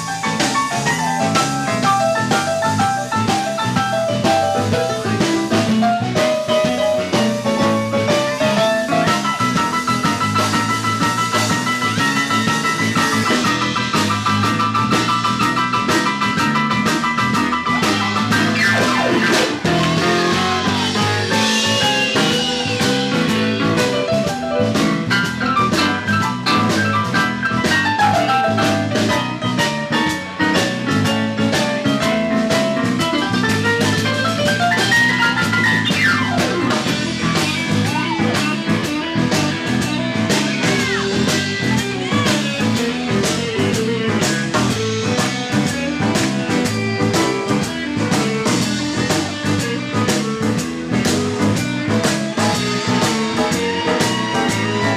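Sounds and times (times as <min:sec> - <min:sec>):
lead guitar bending notes: 0:00.0 - 0:54.9
live blues band playing: 0:00.0 - 0:54.9.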